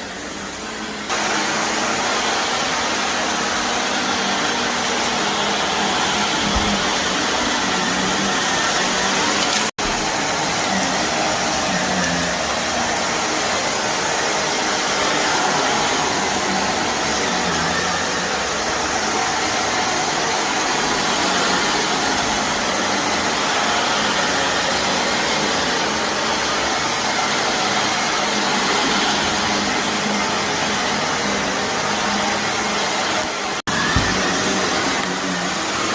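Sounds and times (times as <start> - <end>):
vacuum cleaner running on carpet: 0.0 - 35.9.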